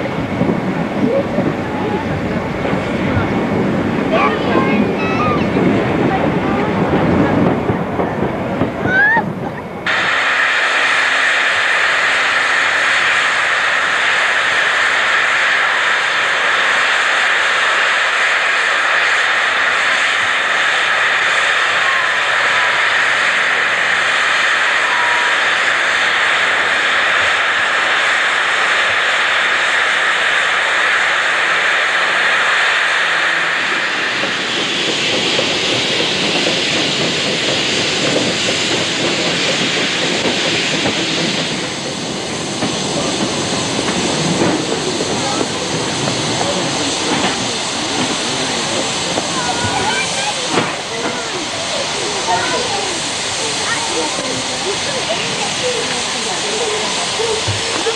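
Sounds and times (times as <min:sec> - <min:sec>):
locomotive running over rails: 0:00.0 - 0:57.9
steam hissing from safety valves: 0:08.8 - 0:57.9.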